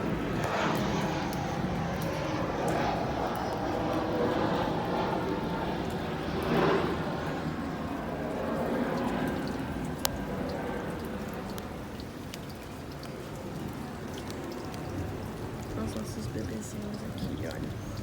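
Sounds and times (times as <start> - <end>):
rain falling: 0.0 - 18.0
ticking drips: 0.0 - 18.0.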